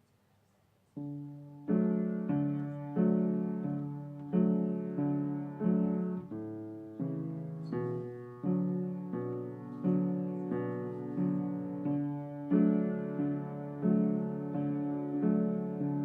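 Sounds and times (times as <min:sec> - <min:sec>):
piano playing slow chords: 0:01.0 - 0:16.0.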